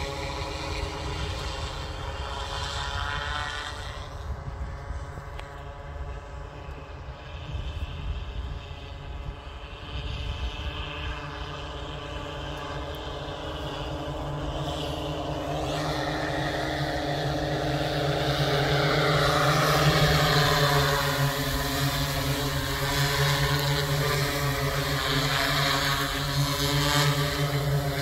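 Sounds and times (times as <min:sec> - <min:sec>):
drone propellers humming: 0:00.0 - 0:28.0.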